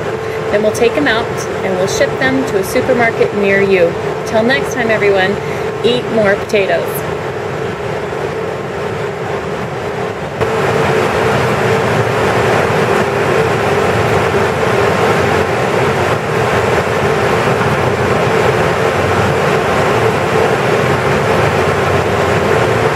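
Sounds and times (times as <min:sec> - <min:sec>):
harvesting machinery running: 0:00.0 - 0:22.9.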